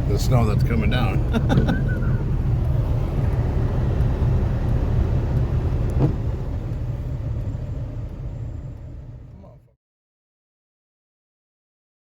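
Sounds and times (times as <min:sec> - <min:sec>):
car road and engine rumble: 0:00.0 - 0:09.8.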